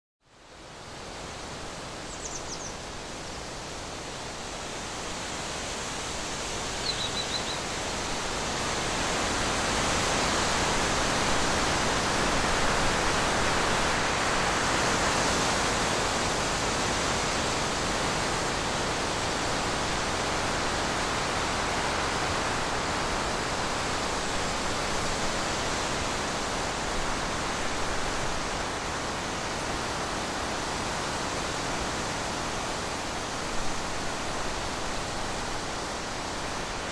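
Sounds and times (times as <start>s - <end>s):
steady outdoor hiss: 0.2s - 36.9s.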